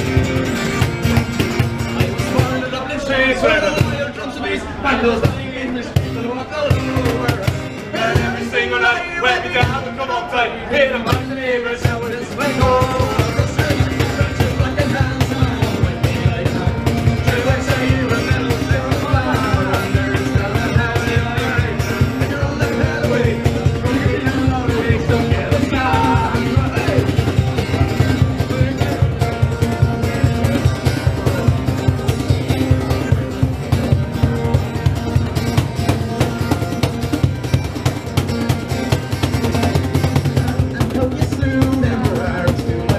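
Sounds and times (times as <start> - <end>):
rock music with singing: 0.0 - 42.9.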